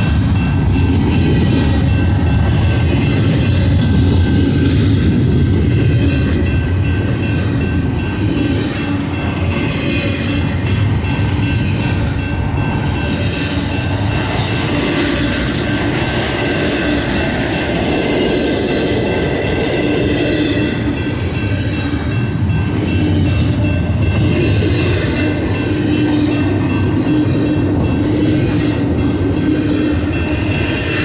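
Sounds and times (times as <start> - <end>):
train wheels on track: 0.0 - 31.0.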